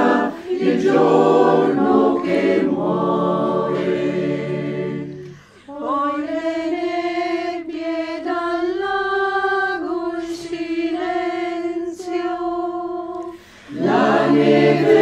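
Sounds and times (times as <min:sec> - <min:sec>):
choir singing wordless melody: 0:00.0 - 0:15.0.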